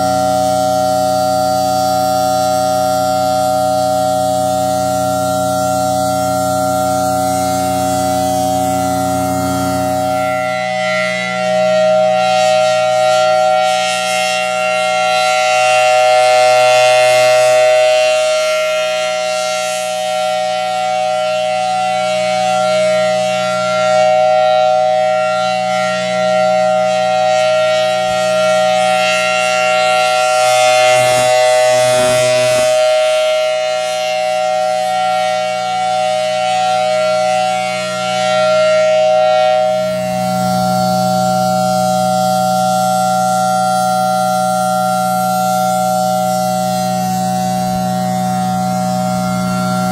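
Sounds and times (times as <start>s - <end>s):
civil defense siren two-note chord: 0.0s - 49.9s.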